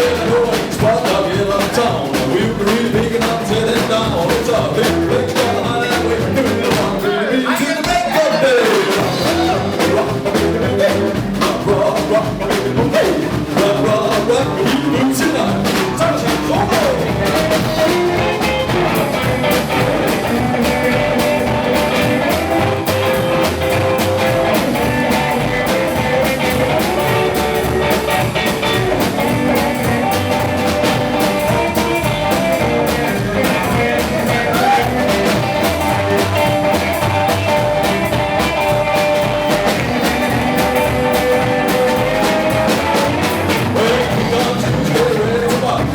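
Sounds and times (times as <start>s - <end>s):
drum kit: 0.0s - 45.9s
electric guitar: 0.0s - 45.9s
person singing: 0.0s - 45.9s.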